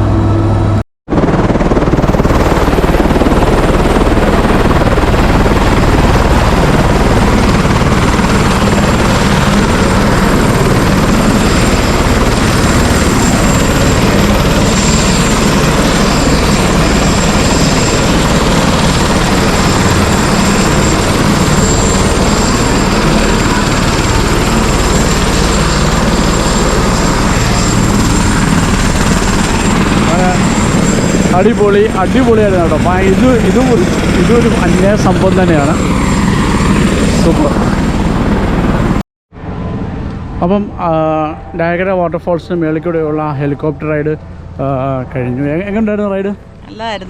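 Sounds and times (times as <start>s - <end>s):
helicopter rotor and engine roar: 0.0s - 47.0s.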